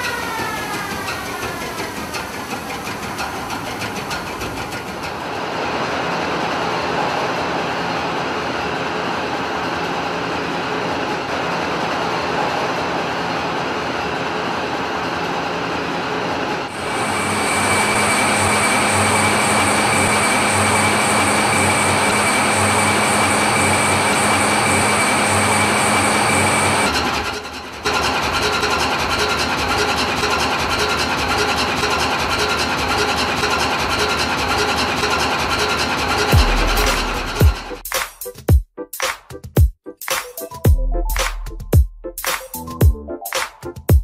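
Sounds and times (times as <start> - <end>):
industrial machinery hum: 0.0 - 38.0.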